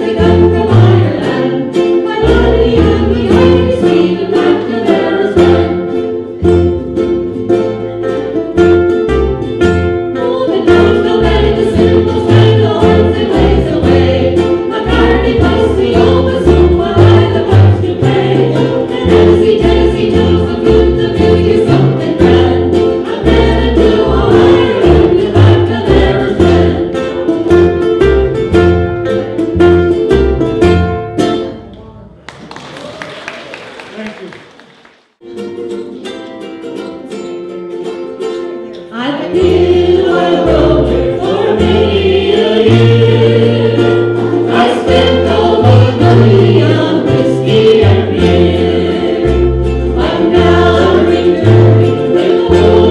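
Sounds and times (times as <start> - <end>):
ukuleles strummed and picked: 0.0 - 52.9
bass line: 2.1 - 32.2, 39.3 - 52.9.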